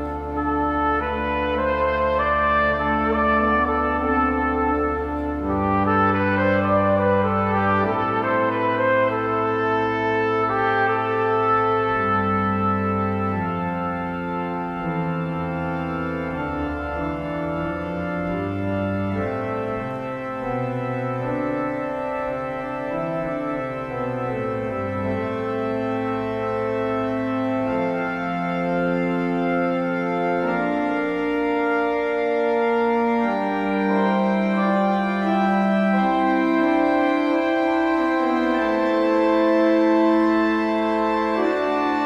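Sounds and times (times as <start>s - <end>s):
organ playing held chords: 0.0s - 42.0s.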